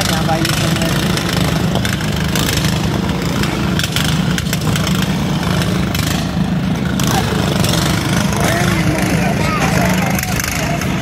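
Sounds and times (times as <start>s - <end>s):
lawn mower engines running: 0.0s - 11.0s.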